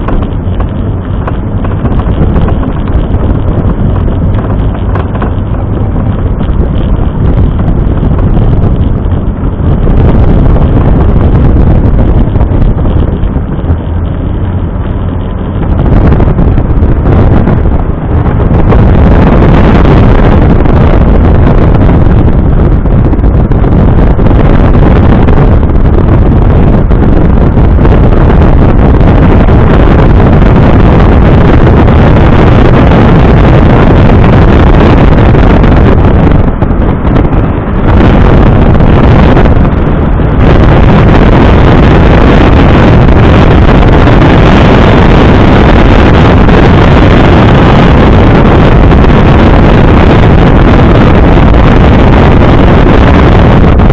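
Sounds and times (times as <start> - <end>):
car engine and road noise: 0.0 - 53.9
wind buffeting microphone: 0.0 - 53.9.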